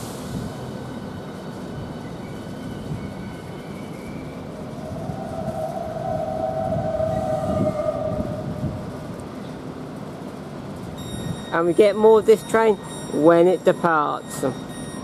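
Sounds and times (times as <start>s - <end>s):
electric train rumbling: 0.0s - 14.2s
high steady whine: 1.4s - 15.0s.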